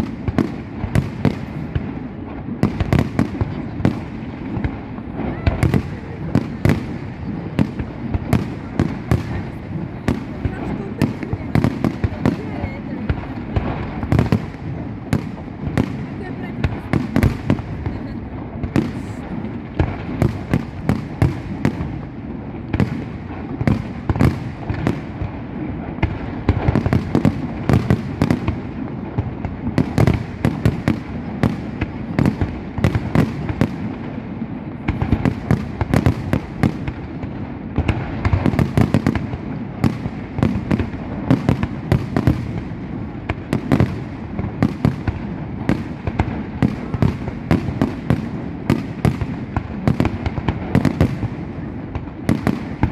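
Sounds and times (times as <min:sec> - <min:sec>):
fireworks bangs and booms: 0:00.0 - 0:52.9.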